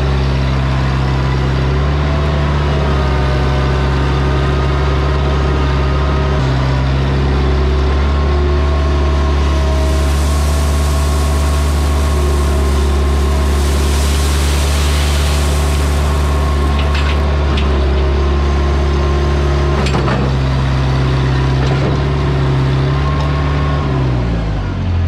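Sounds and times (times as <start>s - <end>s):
loader engine running: 0.0s - 25.0s.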